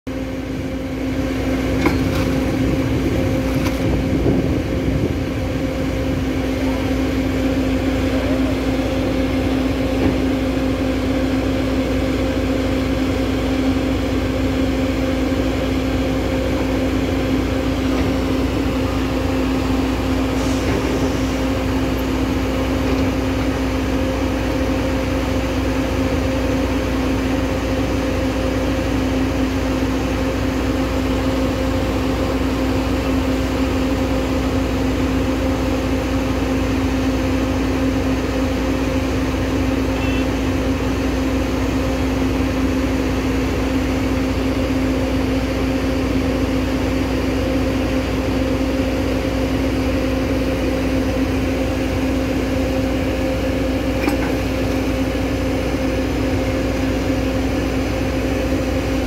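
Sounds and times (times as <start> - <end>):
excavator diesel engine humming: 0.1 - 59.0.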